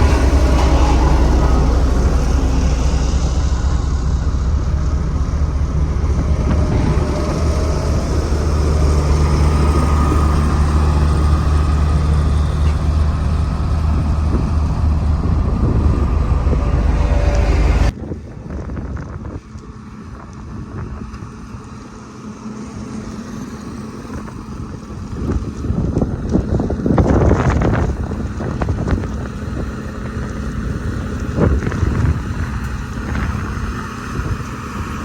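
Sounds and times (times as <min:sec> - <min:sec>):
road roller diesel engine running: 0:00.0 - 0:35.0.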